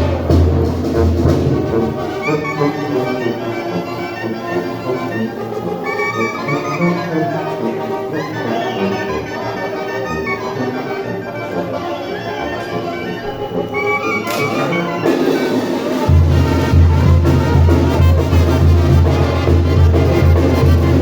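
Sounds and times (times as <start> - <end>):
brass music: 0.0 - 21.0.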